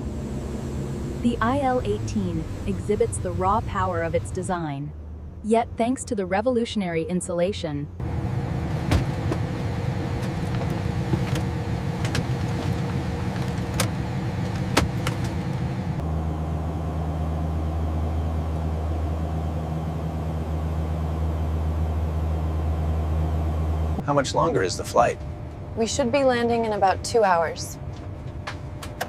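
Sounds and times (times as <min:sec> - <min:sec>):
turboprop engines running: 0:00.0 - 0:29.0.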